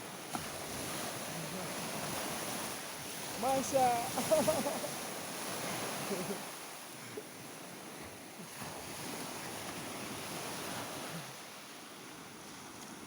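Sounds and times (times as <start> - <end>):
sea surf washing onto shore: 0.0 - 13.0.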